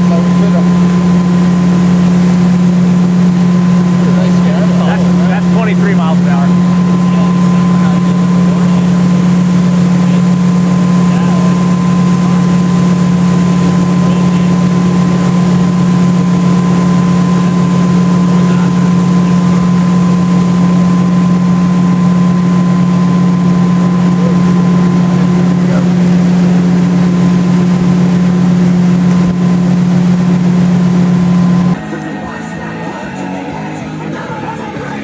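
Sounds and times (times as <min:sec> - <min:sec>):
faint high whine: 0:00.0 - 0:33.5
boat engine drone: 0:00.0 - 0:35.0.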